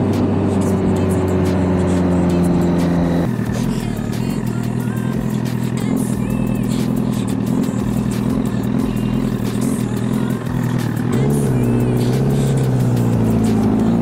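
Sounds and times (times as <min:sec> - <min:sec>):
road and wind noise: 0:00.0 - 0:05.7, 0:06.8 - 0:14.0
motorcycle engine running: 0:00.0 - 0:14.0.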